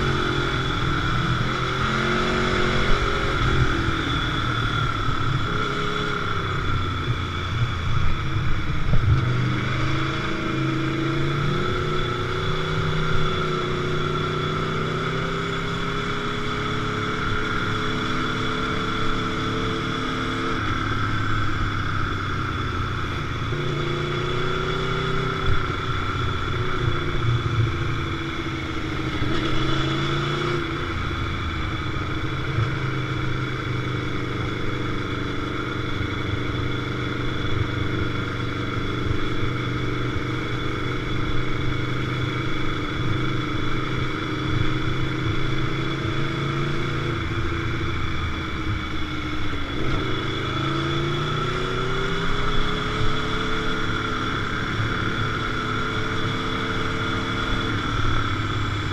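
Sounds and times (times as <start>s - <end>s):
motorcycle engine cruising: 0.0s - 58.9s.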